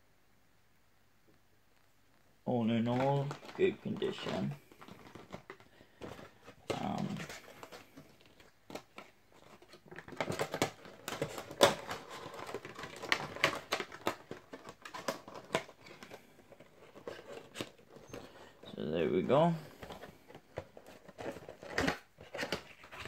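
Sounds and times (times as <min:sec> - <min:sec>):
plastic bag crinkling: 0:02.7 - 0:23.0.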